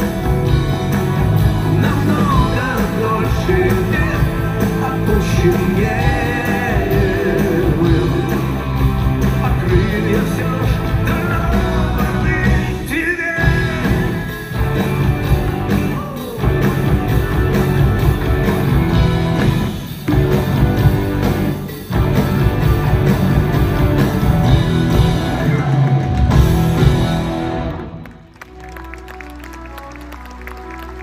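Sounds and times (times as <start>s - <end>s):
drums and bass: 0.0s - 28.2s
electric guitars: 0.0s - 28.4s.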